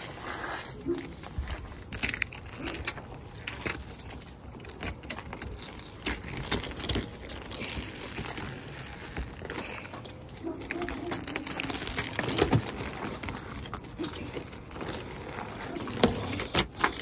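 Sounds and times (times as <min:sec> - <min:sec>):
thin ice cracking and crunching: 0:00.0 - 0:17.0.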